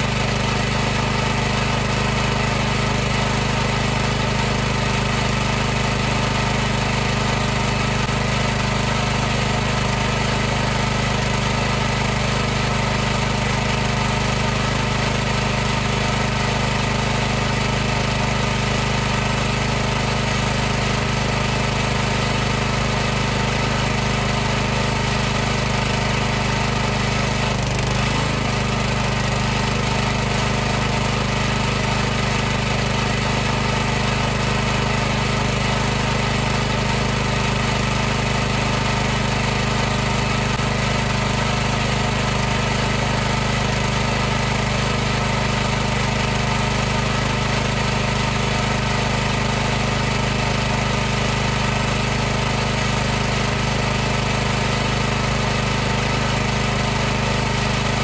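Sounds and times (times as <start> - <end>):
pressure washer running: 0.0 - 58.0.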